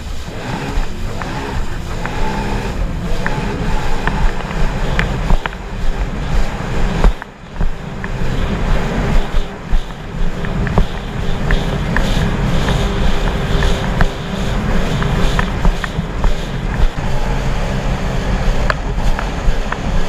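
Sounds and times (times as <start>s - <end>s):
jet ski engine rumble: 0.0s - 20.0s
spray splashing against hull: 0.0s - 20.0s
wind rush on microphone: 0.0s - 20.0s.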